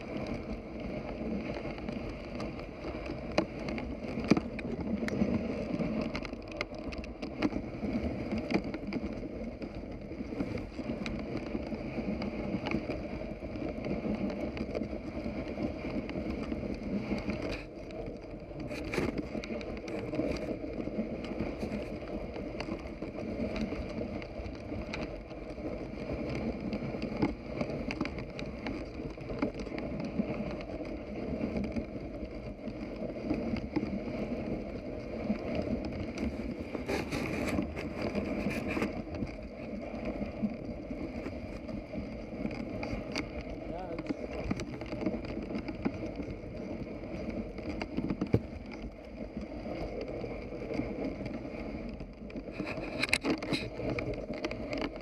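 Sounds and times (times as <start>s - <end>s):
sled rushing through snow: 0.0s - 55.0s.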